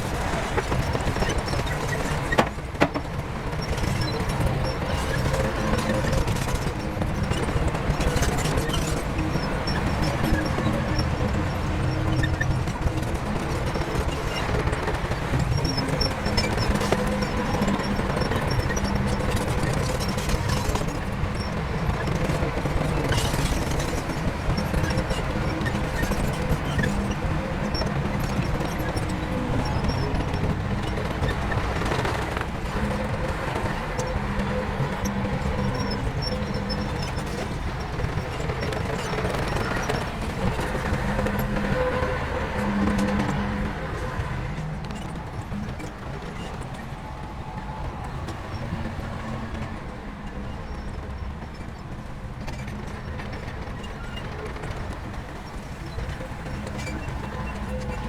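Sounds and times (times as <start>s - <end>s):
diesel machinery rumbling: 0.0s - 58.0s
faint high squeaks: 0.0s - 58.0s.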